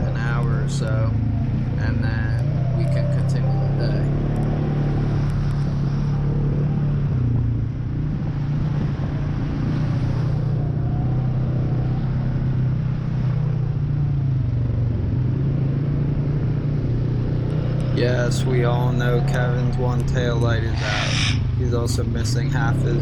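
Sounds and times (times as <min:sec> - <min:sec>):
quad bike engine running: 0:00.0 - 0:23.0.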